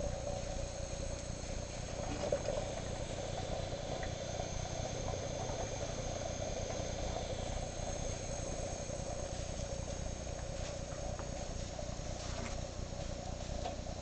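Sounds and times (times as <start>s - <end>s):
steam boiler burner fluttering: 0.0s - 14.0s.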